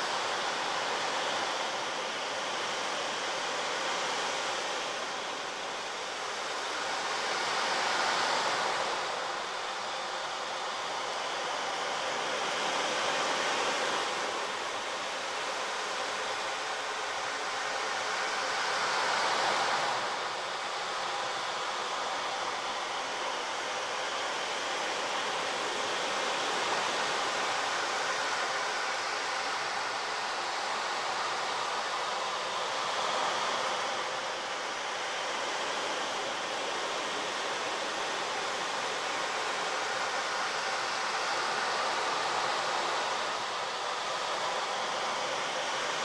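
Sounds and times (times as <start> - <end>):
steady rushing noise: 0.0 - 46.0.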